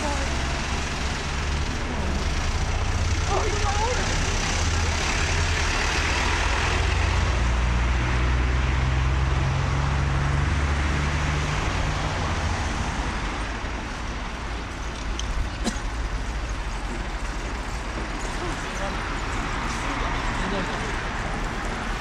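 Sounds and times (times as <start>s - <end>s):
heavy vehicle engine rumbling: 0.0s - 22.0s
street traffic noise: 0.0s - 22.0s.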